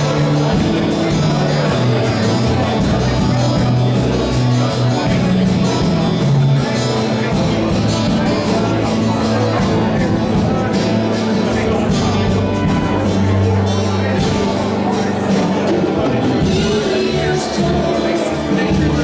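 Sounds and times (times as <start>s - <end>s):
guitar: 0.0s - 19.0s
held bass notes: 0.0s - 19.0s
worship band playing live: 0.0s - 19.0s.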